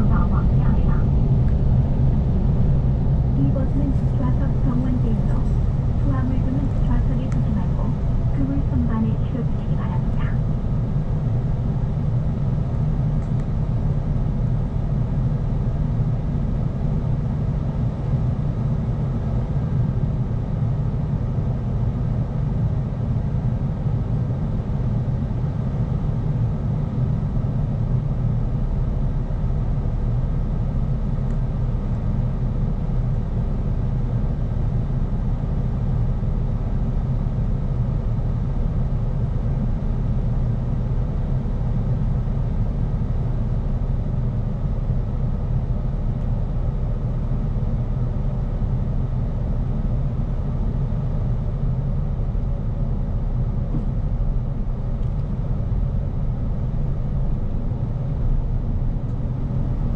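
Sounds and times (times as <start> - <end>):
bus rumble from inside: 0.0 - 59.9.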